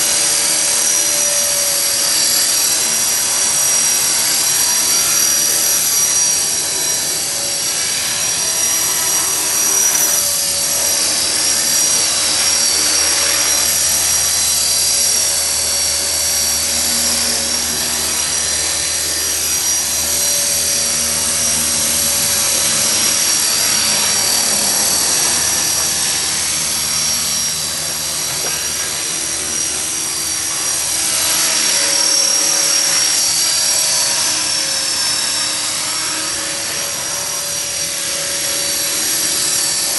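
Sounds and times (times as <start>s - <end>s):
rc helicopter rotor whine: 0.0s - 39.9s.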